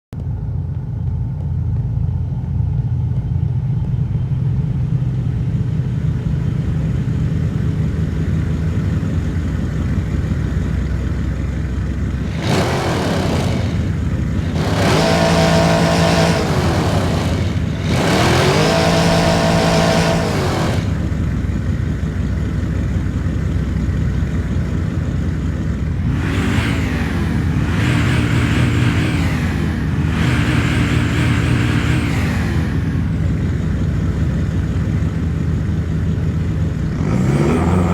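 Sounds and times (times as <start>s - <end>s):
car engine idling and revving: 0.1s - 37.9s.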